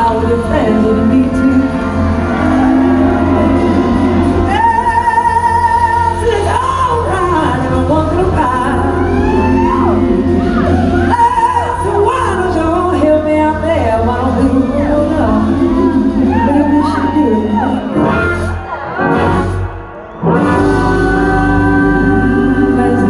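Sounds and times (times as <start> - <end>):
woman singing: 0.0 - 2.1, 3.0 - 10.4, 11.0 - 17.9, 20.7 - 23.0
drums: 0.0 - 23.0.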